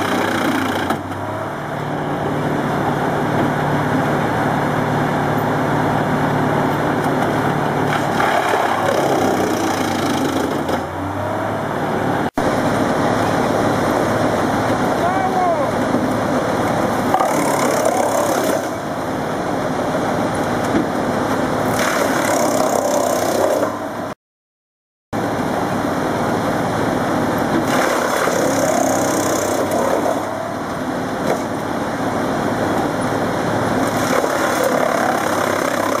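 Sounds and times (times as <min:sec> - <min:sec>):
wood chipper running under load: 0:00.0 - 0:24.1, 0:25.2 - 0:36.0.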